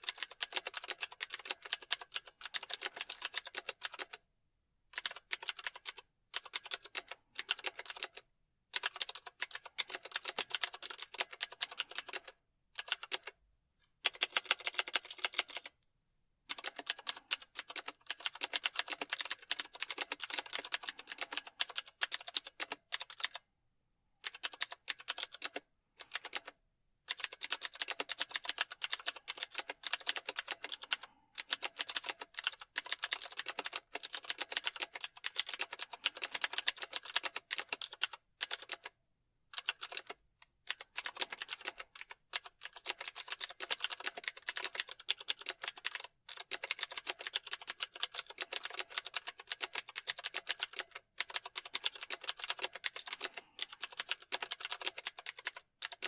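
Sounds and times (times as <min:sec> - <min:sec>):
fast typing on keyboard: 0:00.0 - 0:04.2, 0:05.0 - 0:13.4, 0:14.0 - 0:15.8, 0:16.5 - 0:23.5, 0:24.2 - 0:56.0.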